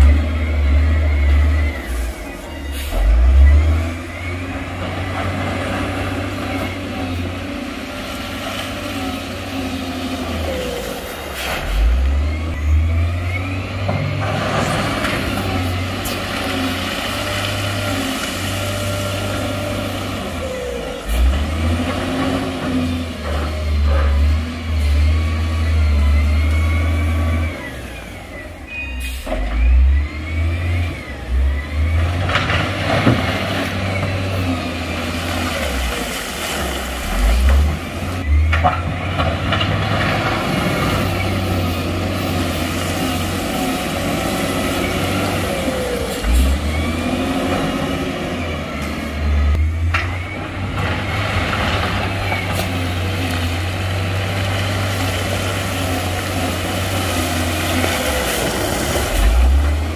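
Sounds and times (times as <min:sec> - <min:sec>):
heavy diesel engines revving: 0:00.0 - 0:59.9.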